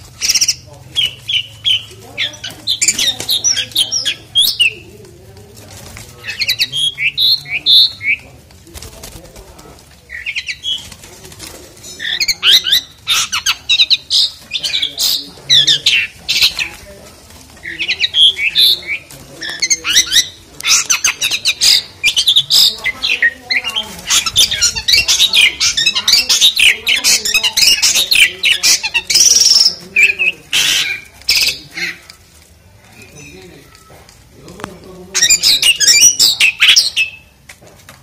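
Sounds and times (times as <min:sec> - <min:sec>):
starling singing: 0:00.0 - 0:37.4.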